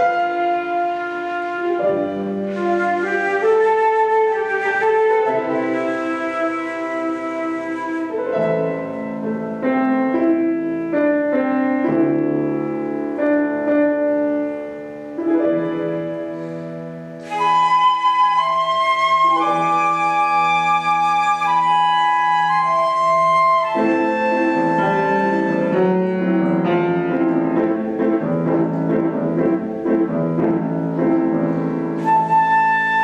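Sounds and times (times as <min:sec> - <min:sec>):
instrumental duet melody: 0:00.0 - 0:33.0.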